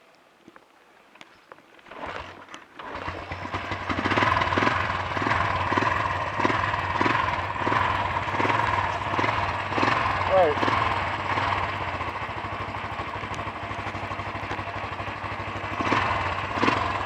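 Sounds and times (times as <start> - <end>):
motorcycle engine starting and idling: 1.8 - 17.0.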